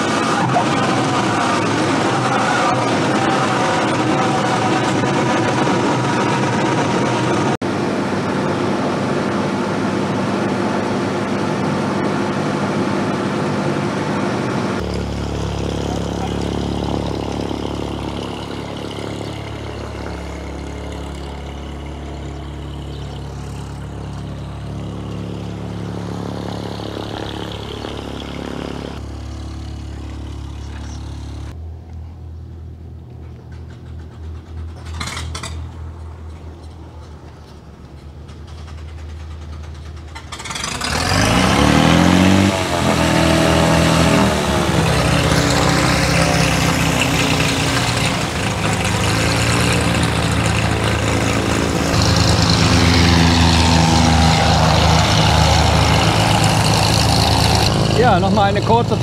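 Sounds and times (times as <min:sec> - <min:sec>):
aircraft engine and propeller running: 0:00.0 - 0:59.0.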